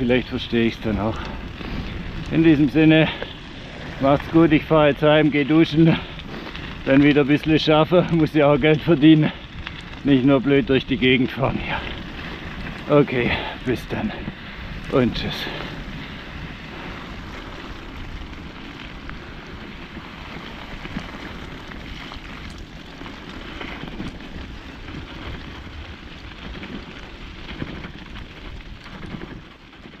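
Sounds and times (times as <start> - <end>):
bicycle tyres rolling: 0.0 - 30.0.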